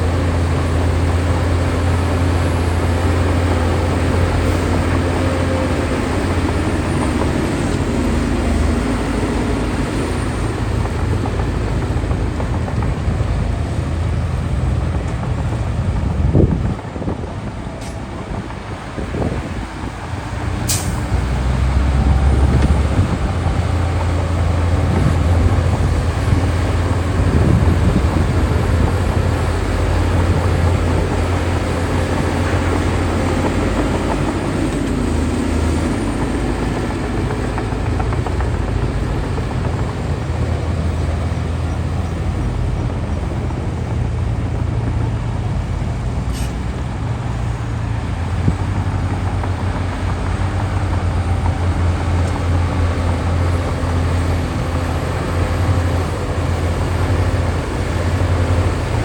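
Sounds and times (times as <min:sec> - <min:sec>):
heavy diesel machinery engine drone: 0:00.0 - 0:59.0.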